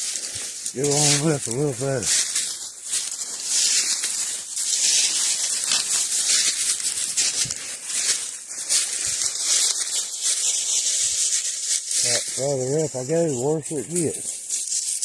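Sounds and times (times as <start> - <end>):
footsteps through rustling brush: 0.0 - 15.0.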